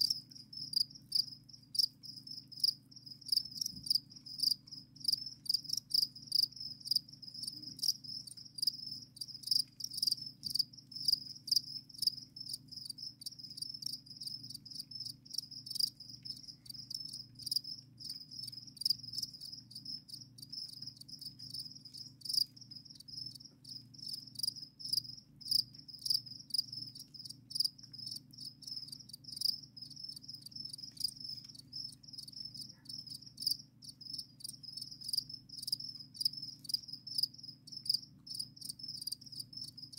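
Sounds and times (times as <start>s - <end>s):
crickets chirping: 0.0s - 39.9s
faint low hum: 0.0s - 39.9s.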